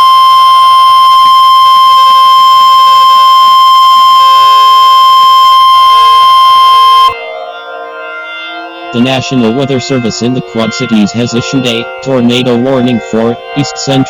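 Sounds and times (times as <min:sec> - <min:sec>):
steady warning alarm tone: 0:00.0 - 0:07.2, 0:09.0 - 0:14.0.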